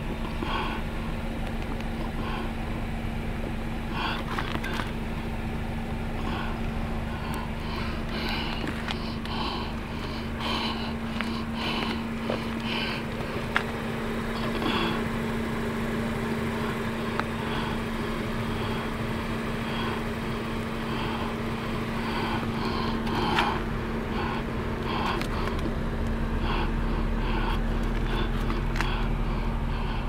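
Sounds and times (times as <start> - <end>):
low rumble: 0.0 - 30.0
steady mechanical hum: 0.0 - 30.0.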